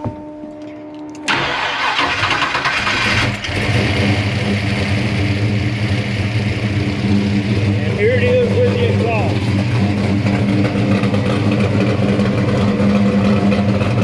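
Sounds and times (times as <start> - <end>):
car engine revving and idling: 1.3 - 14.0.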